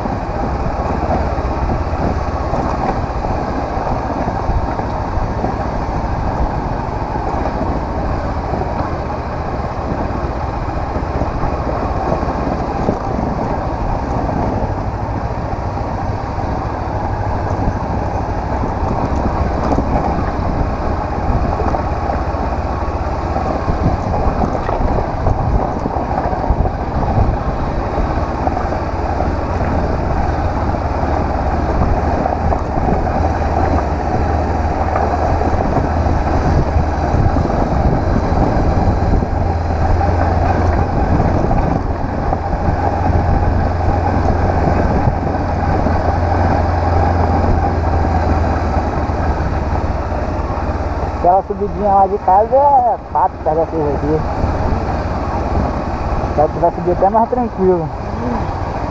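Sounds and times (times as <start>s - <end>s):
motorcycle engine running: 0.0s - 58.9s
wind noise on microphone: 0.0s - 58.9s.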